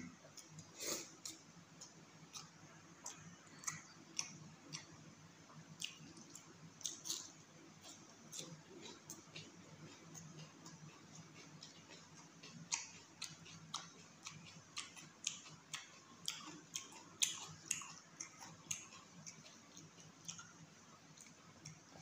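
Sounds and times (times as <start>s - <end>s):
wet chewing with lip smacks: 0.2s - 22.0s.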